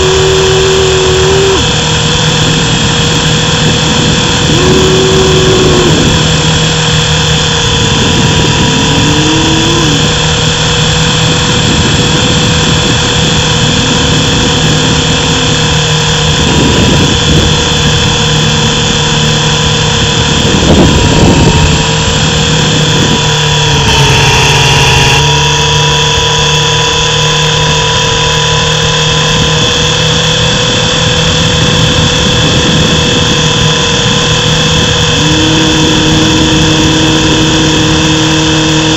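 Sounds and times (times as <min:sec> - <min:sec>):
small helicopter motor whining: 0:00.0 - 0:38.9.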